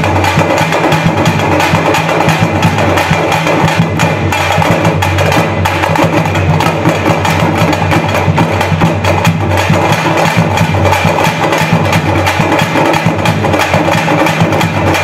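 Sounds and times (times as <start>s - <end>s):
frame drums beaten with sticks: 0.0s - 15.0s.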